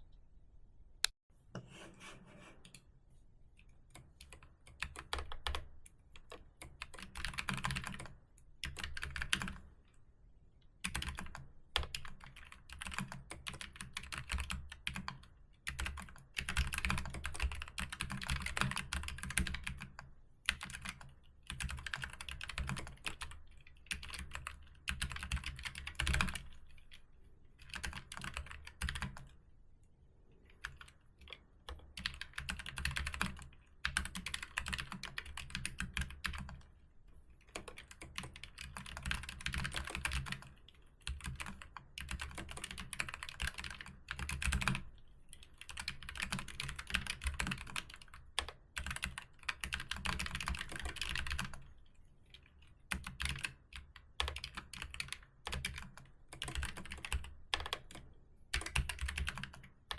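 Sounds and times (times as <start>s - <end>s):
typing on computer keyboard: 3.9s - 9.7s, 10.8s - 27.0s, 27.6s - 29.4s, 30.6s - 36.6s, 37.4s - 59.9s.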